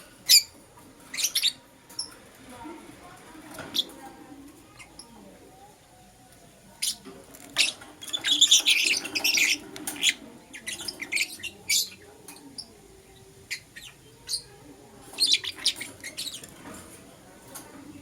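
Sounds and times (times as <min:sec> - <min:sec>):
lovebirds chirping: 0:00.0 - 0:18.0.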